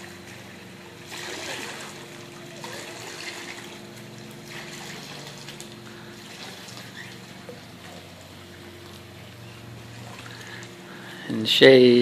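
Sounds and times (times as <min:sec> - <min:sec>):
water trickling into pool: 0:00.0 - 0:11.1
faint steady hum: 0:00.0 - 0:12.0.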